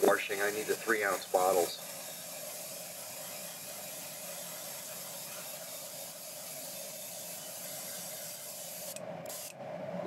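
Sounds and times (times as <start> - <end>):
airbrush spraying paint: 0.0 - 9.6.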